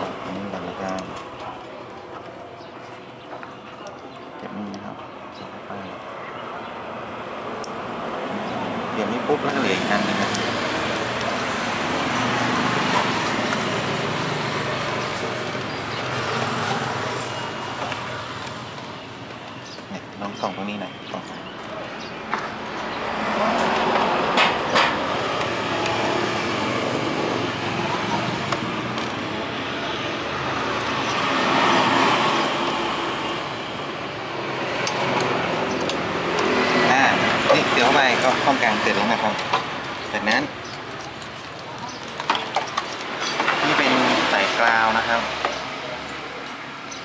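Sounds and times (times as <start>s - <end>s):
road traffic noise: 0.0s - 47.0s
vehicle passing: 5.8s - 47.0s.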